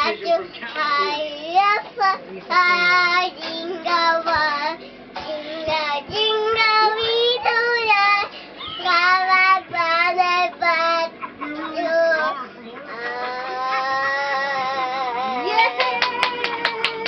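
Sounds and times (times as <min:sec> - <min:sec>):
young child singing: 0:00.9 - 0:15.4.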